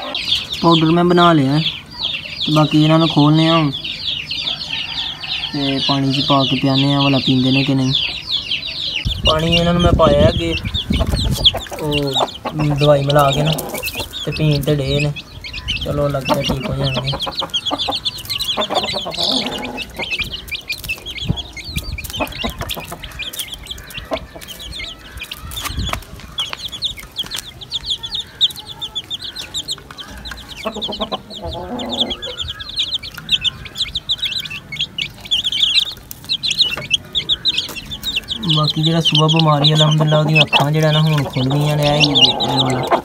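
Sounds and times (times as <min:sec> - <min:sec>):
chicks peeping: 0:00.0 - 0:43.0
hen clucking: 0:00.0 - 0:43.0.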